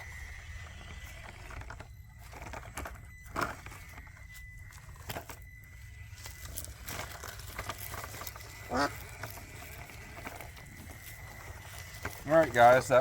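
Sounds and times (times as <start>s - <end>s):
small electric motor whining: 0.0s - 13.0s
tires crunching over rocks: 0.0s - 13.0s.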